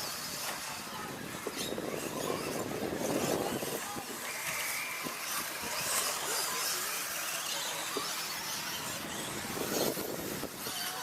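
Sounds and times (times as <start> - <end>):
rc truck motors whining: 0.0 - 11.0.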